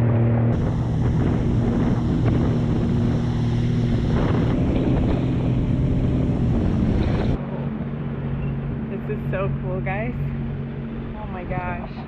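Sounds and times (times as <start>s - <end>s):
jet ski engine hum: 0.0s - 12.0s
water noise: 0.0s - 12.0s
wind buffeting microphone: 0.0s - 12.0s.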